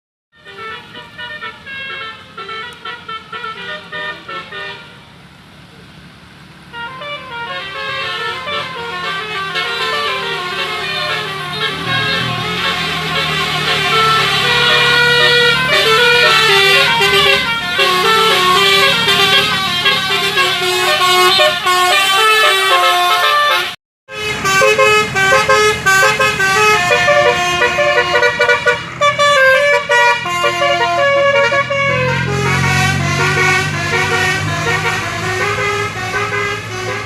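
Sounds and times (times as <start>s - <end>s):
musical air horn playing tune: 0.4s - 5.0s, 6.7s - 37.0s.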